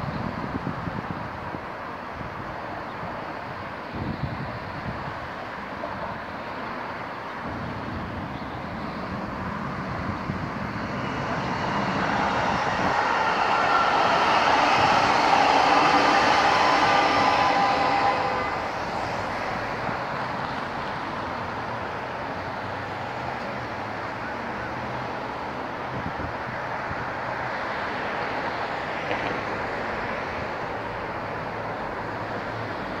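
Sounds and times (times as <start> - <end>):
distant traffic: 0.0 - 33.0
light-rail train tones: 0.0 - 33.0.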